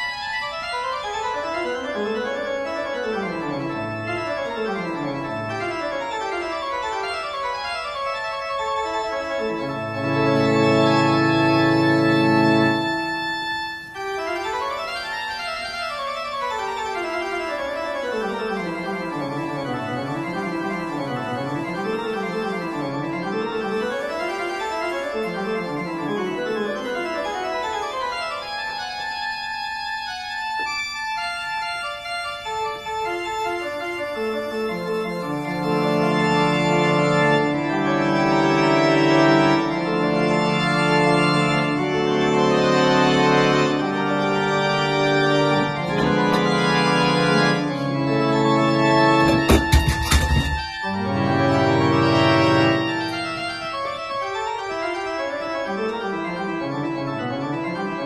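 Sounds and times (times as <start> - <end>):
organ-like keyboard music: 0.0 - 58.0.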